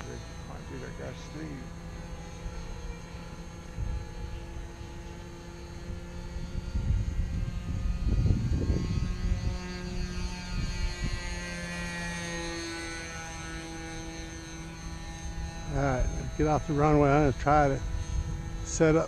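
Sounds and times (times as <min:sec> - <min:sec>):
model airplane engine buzzing: 0:00.0 - 0:19.0.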